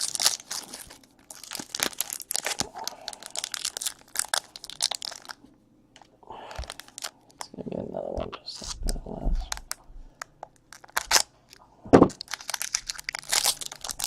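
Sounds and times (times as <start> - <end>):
card pack wrapper crinkling and tearing: 0.0 - 5.4, 6.5 - 7.5, 8.4 - 14.0.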